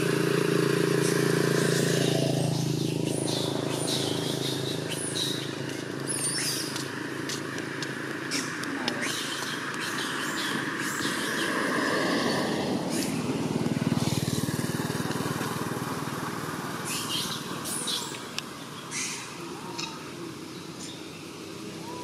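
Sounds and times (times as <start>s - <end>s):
vehicle engine passing: 0.0s - 19.4s.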